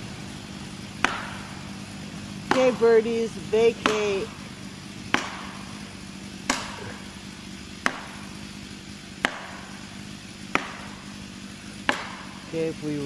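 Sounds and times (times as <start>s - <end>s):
sharp strikes into tree trunk: 0.8s - 3.0s, 3.7s - 12.5s.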